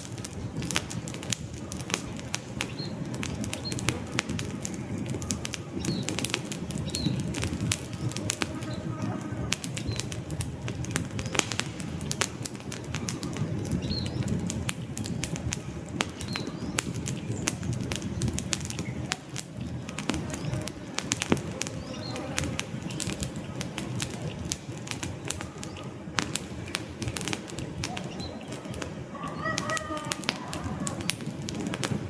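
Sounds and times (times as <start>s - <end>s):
flames rushing: 0.0s - 32.0s
logs crackling and popping: 0.0s - 32.0s.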